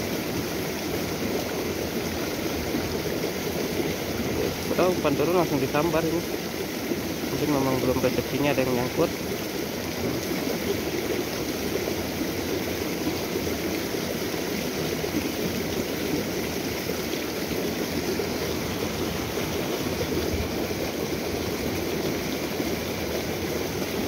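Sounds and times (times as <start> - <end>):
stream running over rocks: 0.0 - 24.0.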